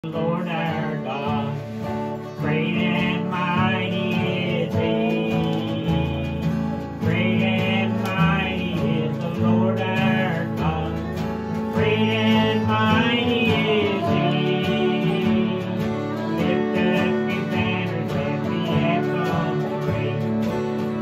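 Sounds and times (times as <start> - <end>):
acoustic guitar: 0.0 - 21.0
man singing: 0.0 - 21.0.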